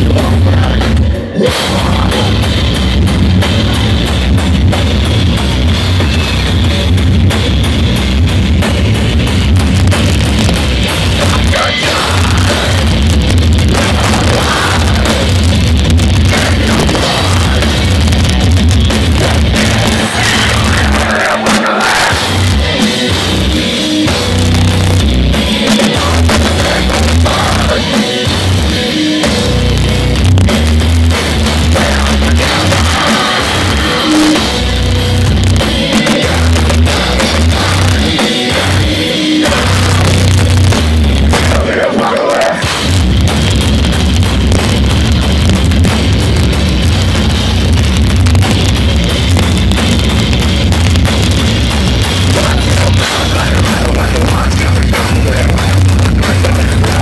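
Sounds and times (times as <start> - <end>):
distorted electric guitars: 0.0 - 57.0
drum kit: 0.0 - 57.0
heavy metal band playing live: 0.0 - 57.0.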